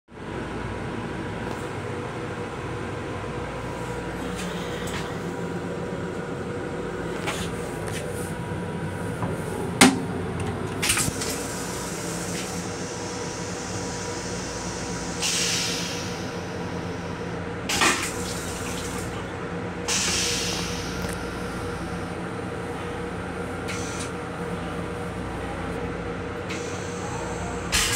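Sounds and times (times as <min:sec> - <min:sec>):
train rumble and hum: 0:00.1 - 0:27.9.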